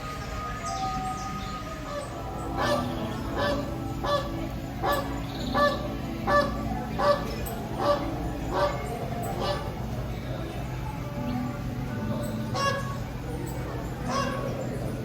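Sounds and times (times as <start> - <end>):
flamingos honking: 0.0 - 10.5, 12.0 - 15.0.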